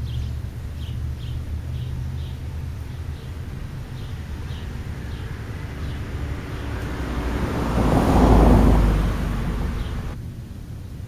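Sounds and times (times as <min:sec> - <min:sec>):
road vehicle passing: 0:00.0 - 0:10.2.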